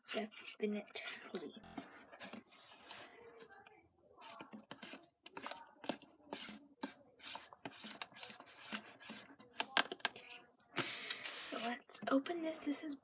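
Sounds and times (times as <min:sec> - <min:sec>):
objects rubbing and scraping: 0:00.0 - 0:11.9.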